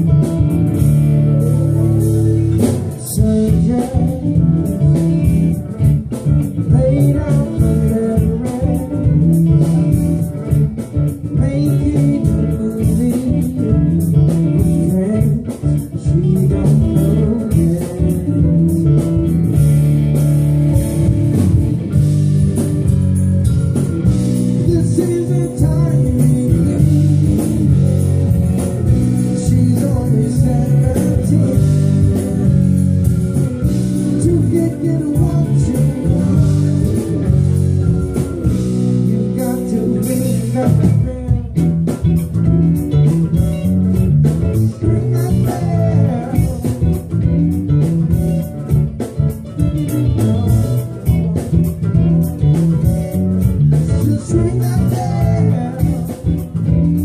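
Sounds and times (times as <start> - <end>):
funk band playing: 0.0 - 57.0.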